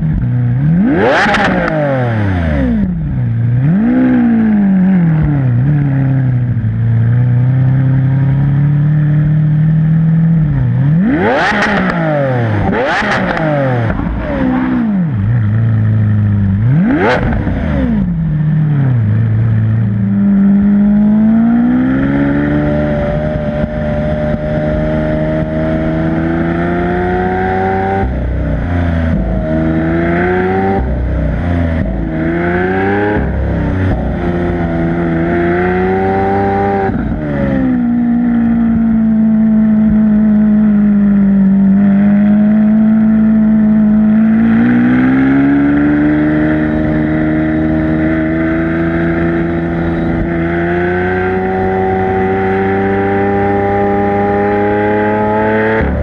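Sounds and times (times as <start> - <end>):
sports car engine revving: 0.0 - 56.0.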